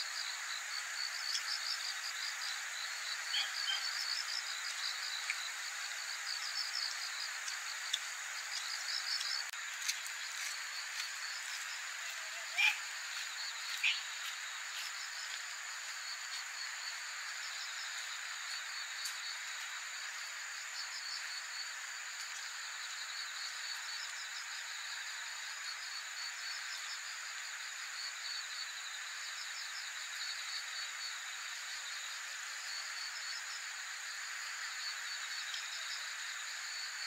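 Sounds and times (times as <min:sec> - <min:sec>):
insects chirping in pulsed trills: 0:00.0 - 0:37.0
steady high-pitched hiss: 0:00.0 - 0:37.0.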